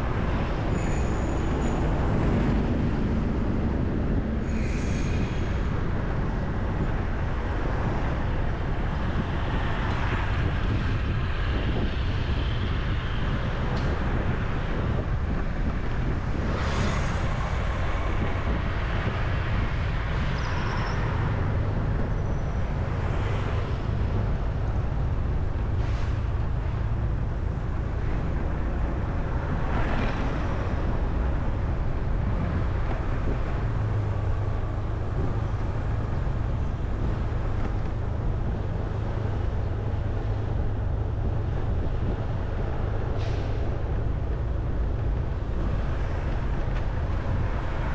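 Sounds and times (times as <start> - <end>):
traffic low rumble: 0.0 - 47.9
vehicles passing: 0.0 - 47.9.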